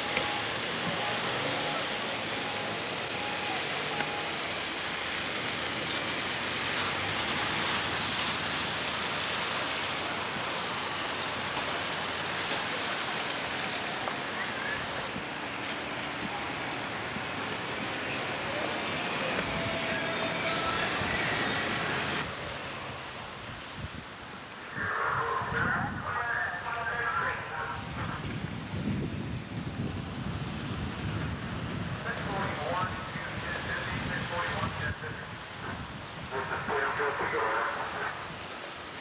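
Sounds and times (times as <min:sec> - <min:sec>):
street noise hiss: 0:00.0 - 0:39.0.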